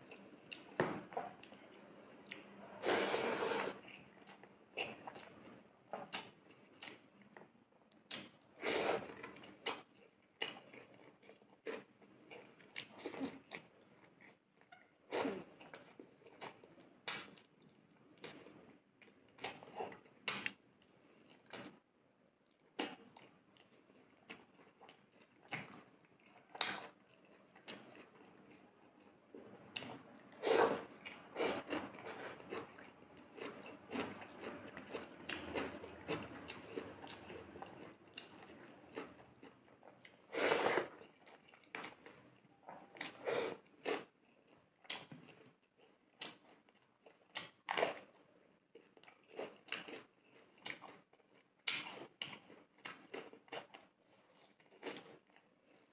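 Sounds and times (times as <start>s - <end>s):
person chewing and mouth sounds: 0.1s - 7.0s, 15.1s - 20.6s, 22.4s - 55.9s.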